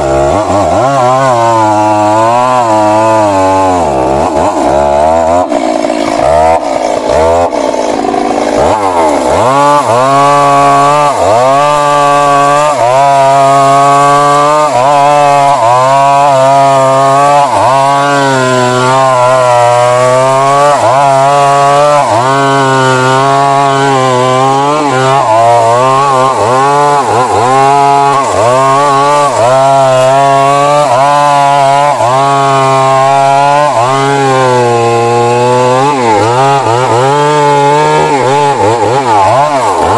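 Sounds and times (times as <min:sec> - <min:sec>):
chainsaw cutting tree trunk: 0:00.0 - 0:39.9.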